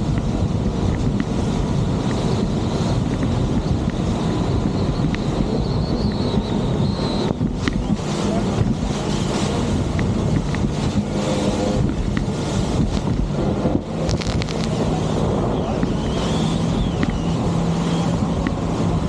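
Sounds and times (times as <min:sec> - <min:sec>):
motorboat engine running: 0:00.0 - 0:19.0
water rushing past hull: 0:00.0 - 0:19.0
wind buffeting microphone: 0:00.0 - 0:19.0.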